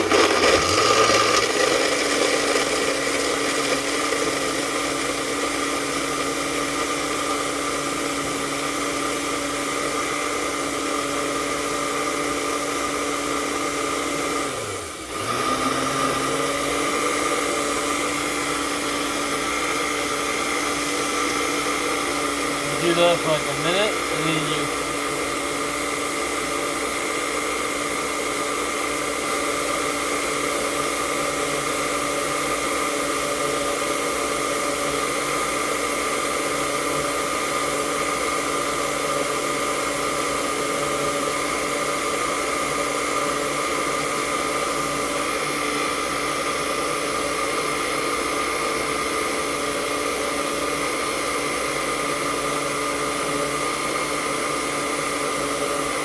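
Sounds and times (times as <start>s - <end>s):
blender motor whirring: 0.0s - 56.0s.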